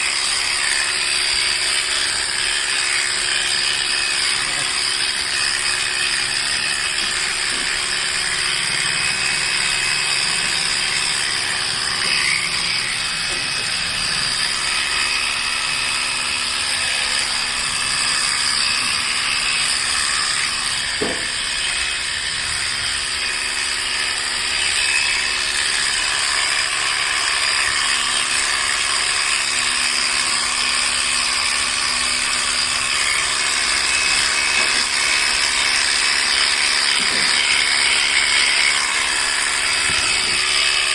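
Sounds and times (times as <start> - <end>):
electric clippers whining: 0.0 - 40.9.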